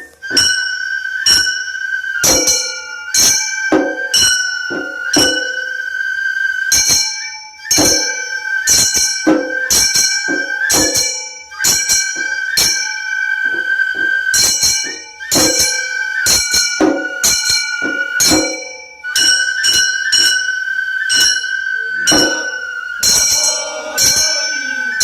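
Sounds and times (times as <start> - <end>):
small gongs clanging: 0.0 - 5.9, 6.7 - 13.2, 14.2 - 25.0
high-pitched flute melody: 0.0 - 25.0.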